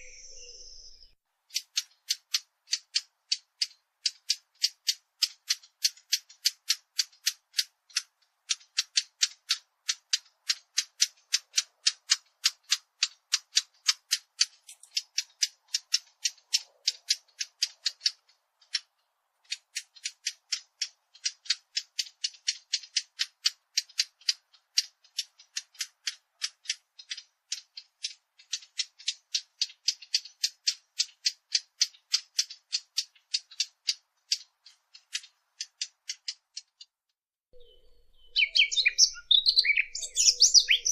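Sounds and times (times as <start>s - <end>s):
bird giving dry ticking calls: 0.0s - 40.9s.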